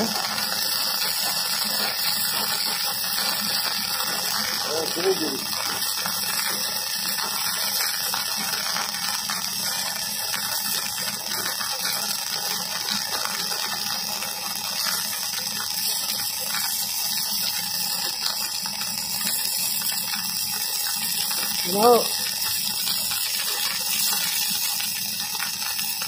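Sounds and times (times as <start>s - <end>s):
welding arc crackling hiss: 0.0s - 26.0s.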